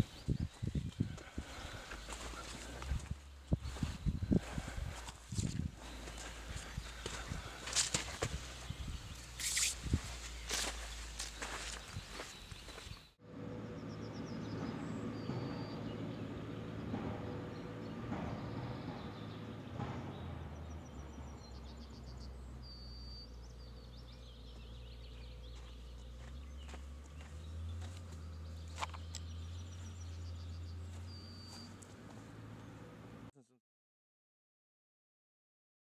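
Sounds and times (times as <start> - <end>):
steady low rumble: 0.0 - 32.9
small birds chirping: 0.0 - 33.3.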